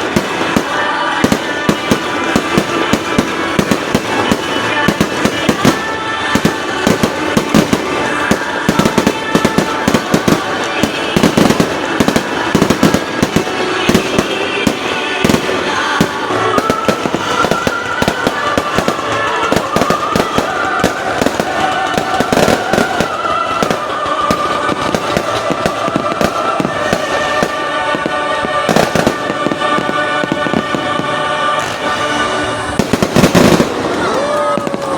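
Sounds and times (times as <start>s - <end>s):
fireworks bangs and crackles: 0.0s - 34.9s
music playing: 0.0s - 34.9s.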